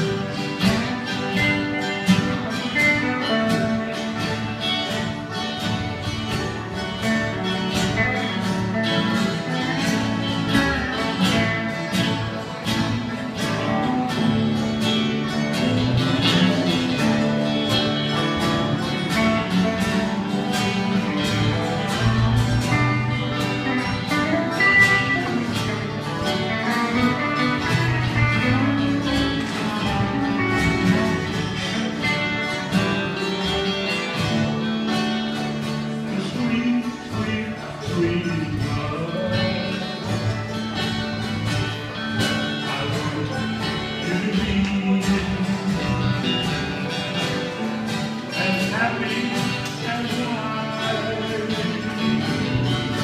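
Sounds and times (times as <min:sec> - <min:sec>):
plucked strings country jam: 0:00.0 - 0:53.0.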